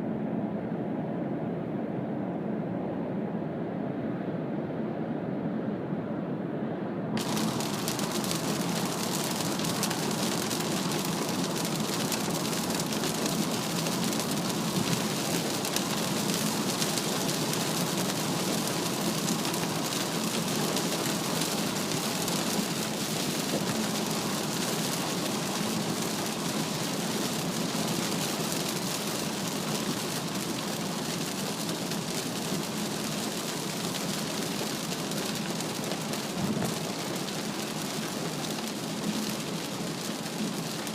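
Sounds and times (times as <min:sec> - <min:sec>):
heavy rain on a car: 0:07.2 - 0:40.9.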